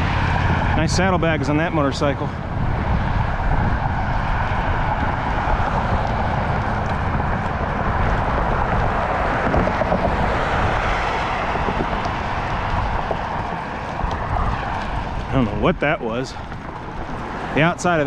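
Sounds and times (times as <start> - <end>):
bicycle road noise: 0.0 - 18.0
wind buffeting microphone: 0.0 - 18.0.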